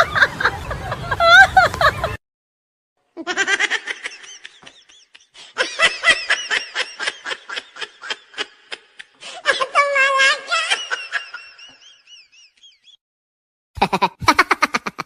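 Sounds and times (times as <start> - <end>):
high-pitched laughter: 0.0 - 2.2, 3.2 - 12.9, 13.8 - 15.0.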